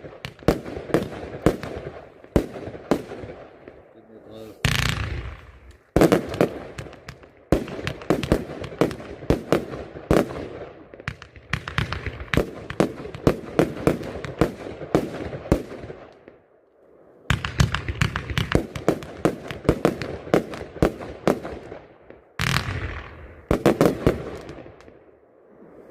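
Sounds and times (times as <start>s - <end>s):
fireworks bangs and crackles: 0.0s - 16.4s, 17.3s - 25.9s.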